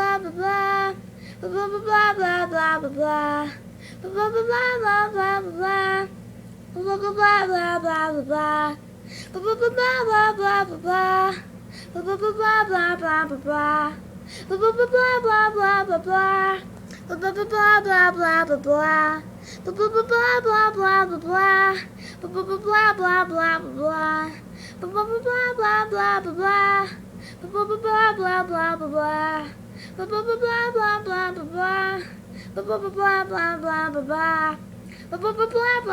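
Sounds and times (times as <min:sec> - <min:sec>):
low hum: 0:00.0 - 0:35.9.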